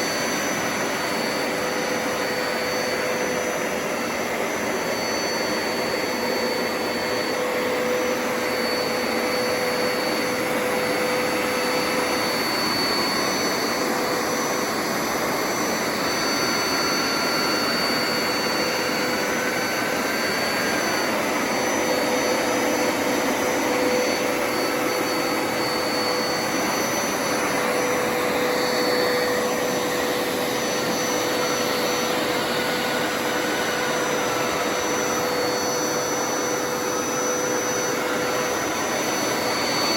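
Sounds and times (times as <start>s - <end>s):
carpet cleaner running: 0.0s - 39.9s.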